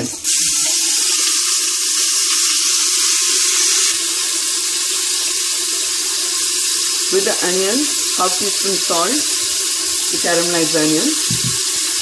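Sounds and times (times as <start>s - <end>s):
onions sizzling in hot fat: 0.0s - 12.0s.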